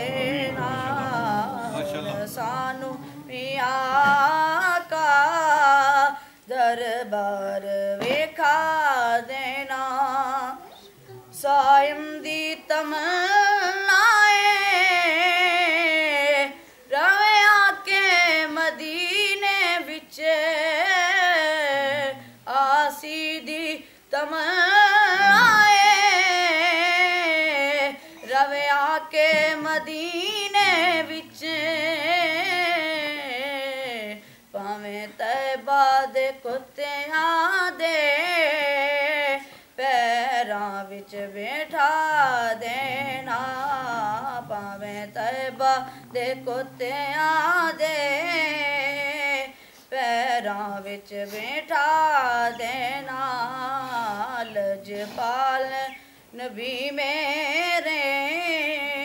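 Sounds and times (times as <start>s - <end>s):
boy singing: 0.0s - 59.0s.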